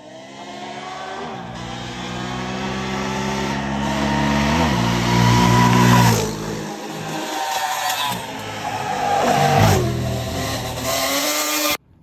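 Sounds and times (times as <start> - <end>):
quad engines revving high: 0.0 - 11.9.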